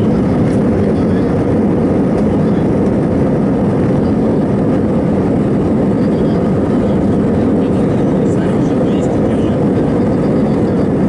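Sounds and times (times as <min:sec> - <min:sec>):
jet cabin engine noise: 0:00.0 - 0:11.0.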